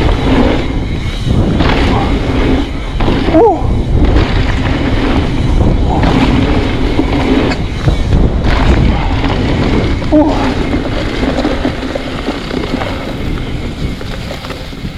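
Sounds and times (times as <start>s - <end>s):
bike tyres rumbling on dirt trail: 0.0s - 14.9s.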